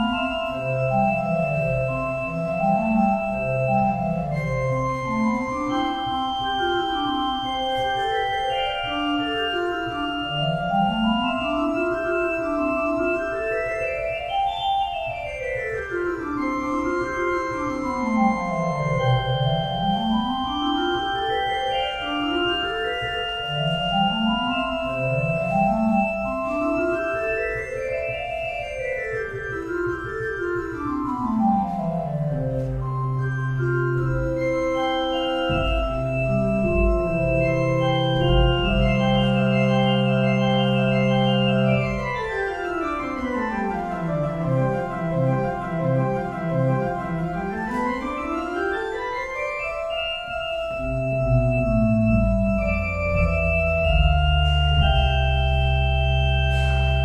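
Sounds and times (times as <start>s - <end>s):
pipe organ playing: 0.0s - 57.0s.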